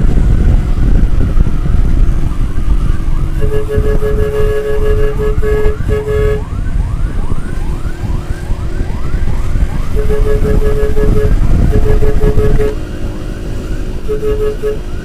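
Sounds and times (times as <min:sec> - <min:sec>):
traffic rumble: 0:00.0 - 0:15.0
wind rumble: 0:00.0 - 0:15.0
siren wailing in rising sweeps: 0:00.2 - 0:15.0.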